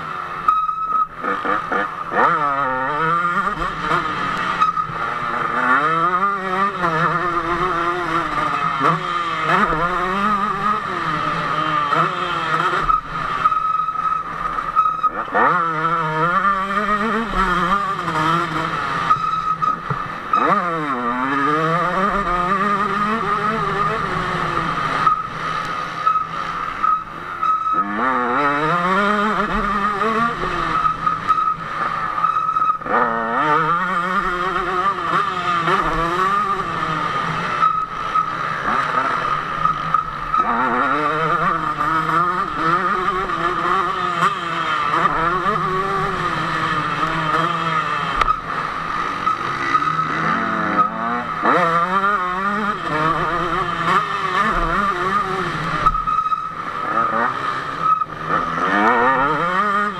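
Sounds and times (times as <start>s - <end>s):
motocross engine revving: 1.0s - 59.9s.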